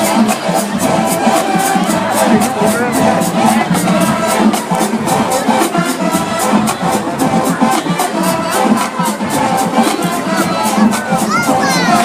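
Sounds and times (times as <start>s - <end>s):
brass horns playing tune: 0.0s - 12.0s
marching drumline beat: 0.0s - 12.0s.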